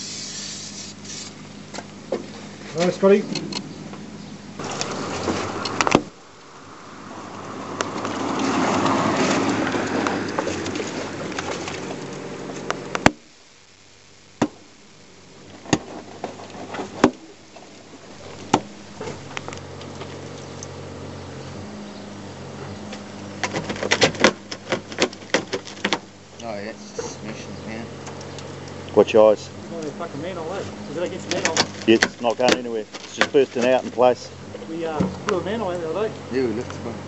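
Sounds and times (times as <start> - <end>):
engine running: 0.0 - 37.0.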